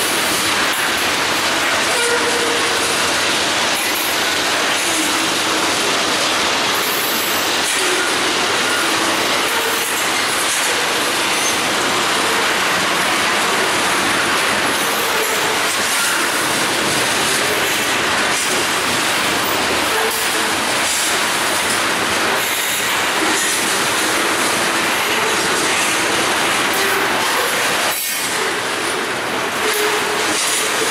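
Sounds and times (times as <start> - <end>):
train wheels clacking on rail: 0.0 - 30.9.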